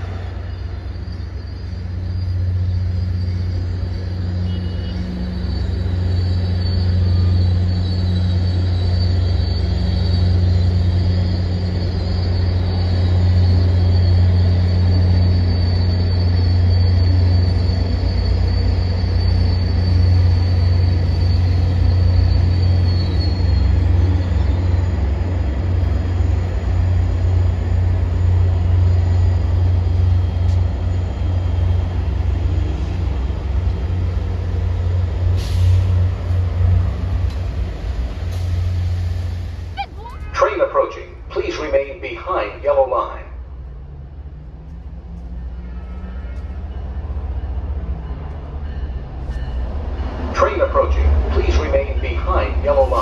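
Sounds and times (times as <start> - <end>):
train wheels squealing: 0.0 - 40.4, 43.6 - 53.0.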